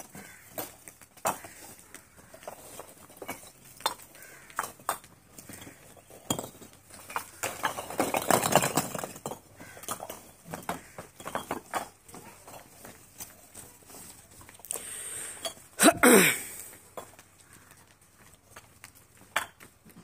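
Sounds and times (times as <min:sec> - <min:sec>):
bricks clinking and knocking: 0:00.0 - 0:14.6, 0:15.4 - 0:15.8, 0:18.5 - 0:20.0.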